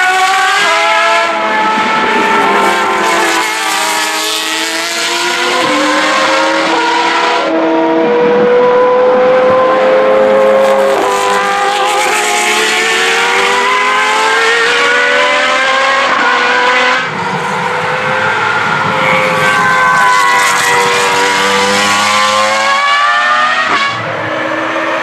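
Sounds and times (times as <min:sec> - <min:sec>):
racing car engines accelerating: 0:00.0 - 0:25.0.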